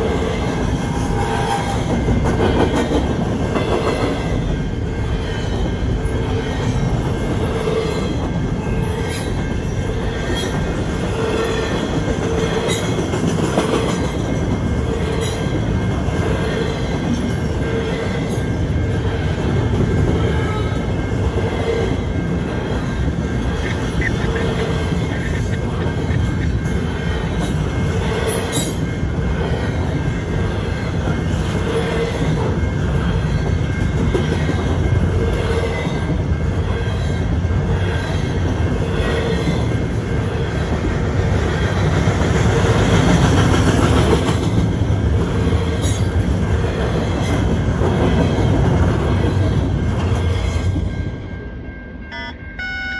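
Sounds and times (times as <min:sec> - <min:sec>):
freight train wheels rumbling on rail: 0:00.0 - 0:52.9
train trucks clacking: 0:00.0 - 0:52.9.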